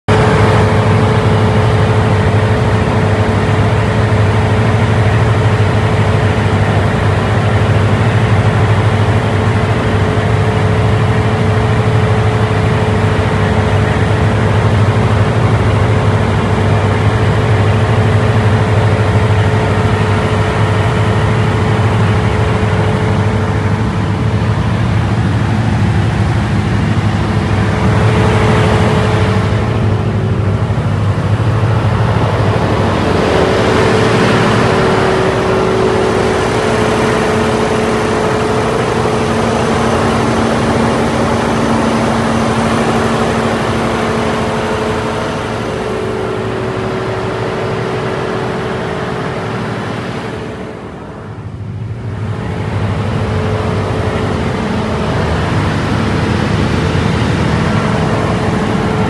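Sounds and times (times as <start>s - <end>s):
generator engine hum: 0.0s - 59.0s
thin steady whine: 0.1s - 59.0s.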